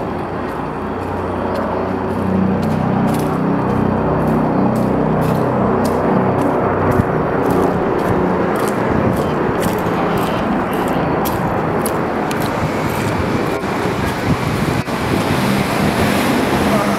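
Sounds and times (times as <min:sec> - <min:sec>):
city street traffic noise: 0:00.0 - 0:16.9.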